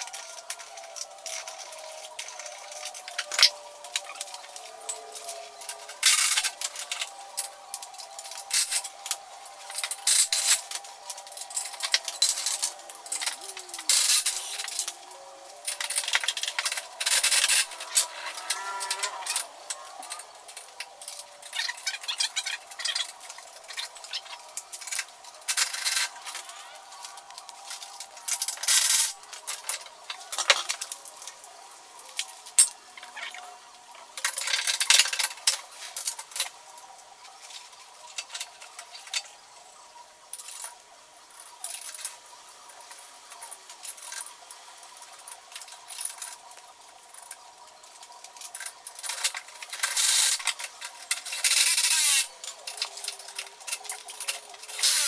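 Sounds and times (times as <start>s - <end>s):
metal tools clinking and rattling: 0.0s - 31.4s, 32.1s - 33.4s, 34.2s - 36.5s, 42.8s - 55.0s.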